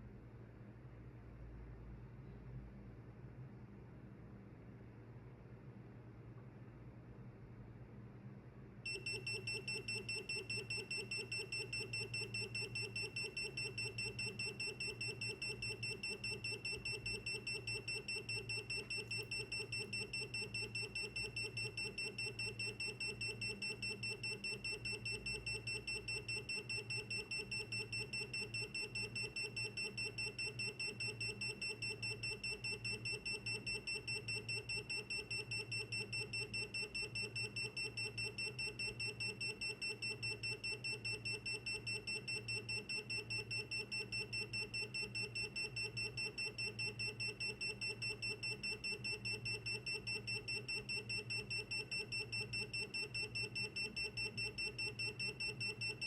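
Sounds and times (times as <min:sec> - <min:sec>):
electronic alarm buzzer beeping: 0:08.9 - 0:56.0.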